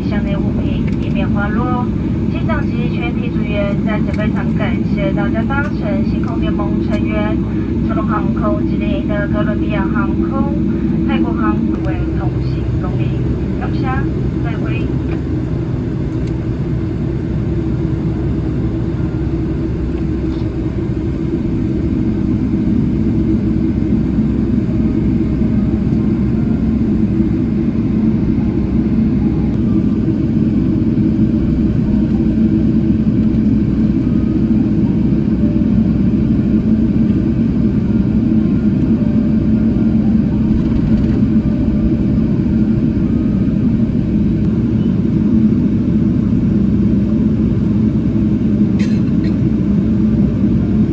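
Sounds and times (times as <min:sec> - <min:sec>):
aircraft cabin rumble: 0:00.0 - 0:50.9.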